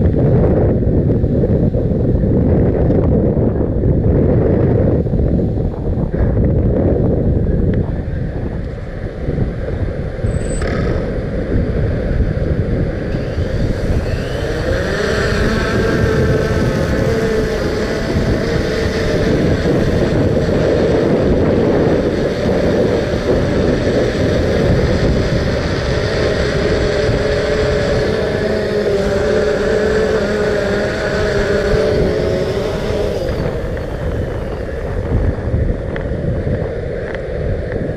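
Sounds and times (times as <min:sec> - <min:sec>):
wavering mechanical hum: 0:00.0 - 0:37.9
wind buffeting microphone: 0:00.0 - 0:37.9.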